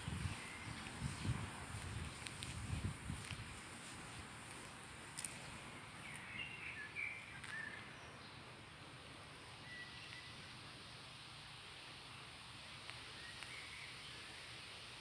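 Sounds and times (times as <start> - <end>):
outdoor ambience among trees: 0.0 - 15.0.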